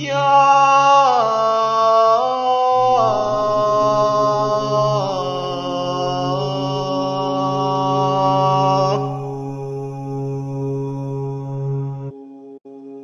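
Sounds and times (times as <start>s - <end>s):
single voice chanting: 0.0s - 11.3s
low drone: 0.0s - 12.2s.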